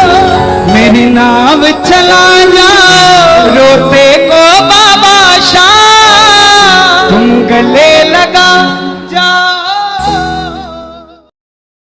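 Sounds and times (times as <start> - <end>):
instrumental accompaniment: 0.0 - 11.3
person singing devotional song: 0.0 - 11.3.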